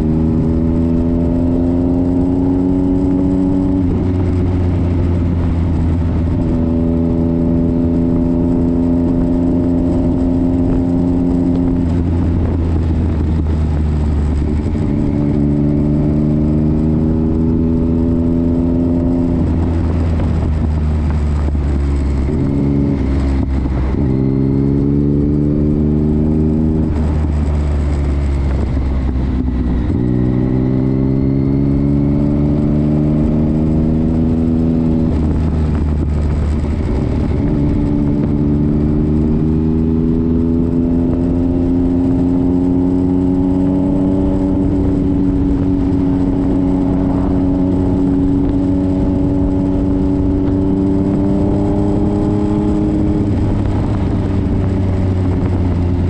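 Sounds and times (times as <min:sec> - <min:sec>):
motorcycle engine shifting gears: 0:00.0 - 0:56.0
road and wind rumble: 0:00.0 - 0:56.0.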